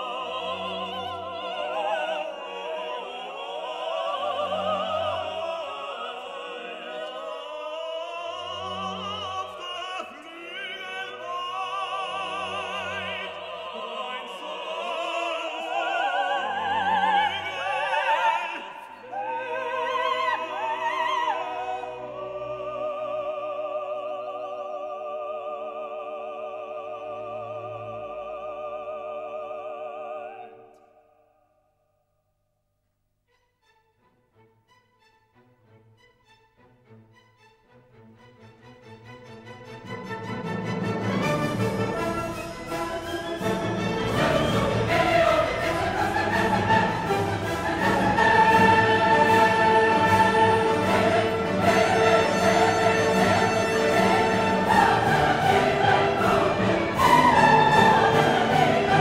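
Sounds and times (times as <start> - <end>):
operatic singing with orchestra: 0.0 - 31.2, 36.8 - 59.0.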